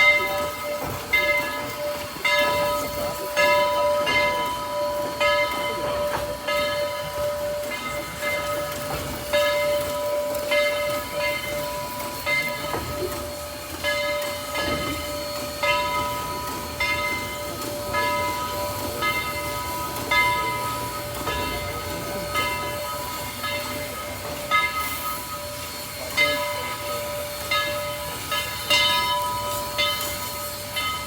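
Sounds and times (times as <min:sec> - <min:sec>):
rail noise: 0:00.0 - 0:31.0
railroad bell ringing: 0:00.0 - 0:31.0.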